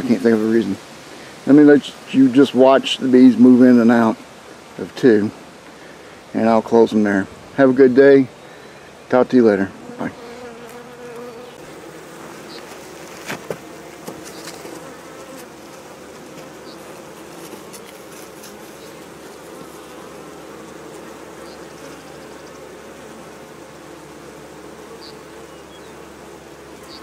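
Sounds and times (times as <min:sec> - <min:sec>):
honey bees buzzing: 0:00.0 - 0:27.0.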